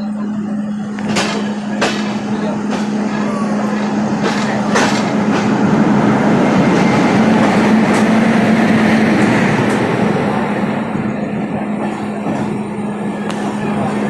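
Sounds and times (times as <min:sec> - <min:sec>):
train wheels rolling on rail: 0:00.0 - 0:14.0.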